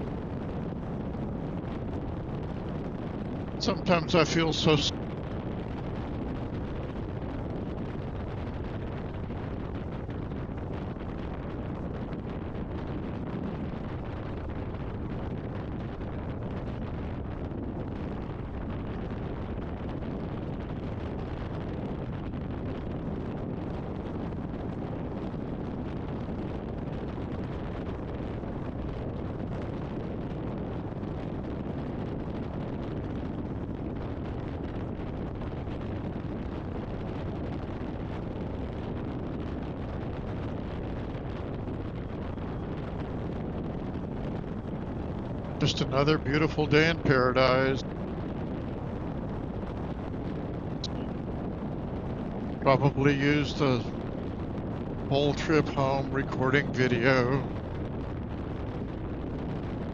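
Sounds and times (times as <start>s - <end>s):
wind rush on helmet microphone: 0.0s - 59.9s.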